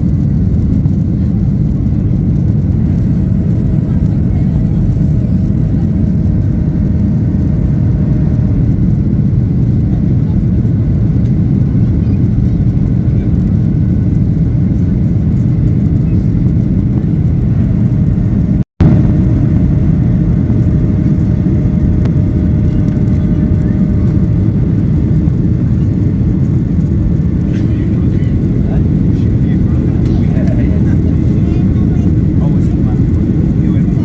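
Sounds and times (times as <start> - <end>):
jet engine noise in cabin: 0.0 - 34.0.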